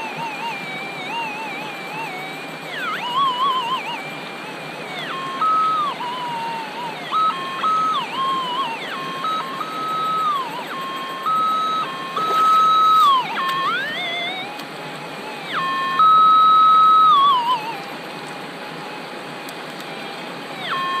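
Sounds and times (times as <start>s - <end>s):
metal detector wavering tone: 0.0s - 19.0s, 19.8s - 21.0s.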